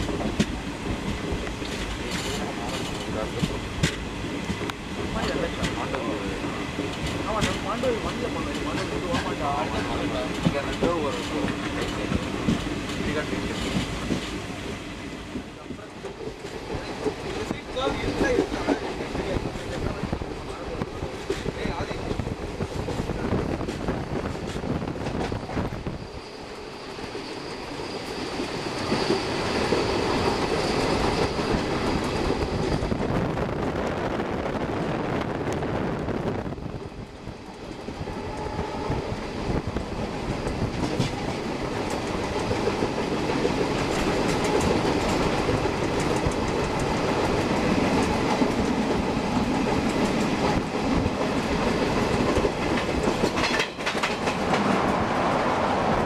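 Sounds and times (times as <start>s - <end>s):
train wheels rattling over rails: 0.0s - 56.0s.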